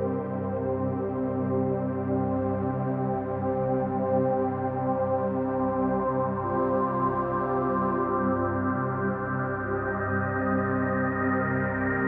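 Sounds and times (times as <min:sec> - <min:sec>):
ambient music of held chords: 0:00.0 - 0:12.0.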